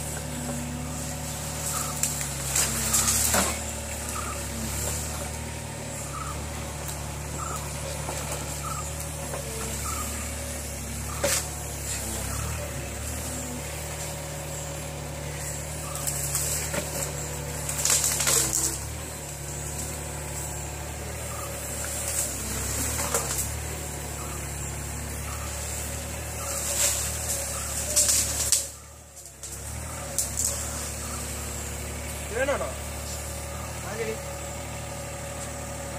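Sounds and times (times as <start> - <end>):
excavator diesel engine running: 0.0 - 35.9
hydraulics working: 0.0 - 35.9.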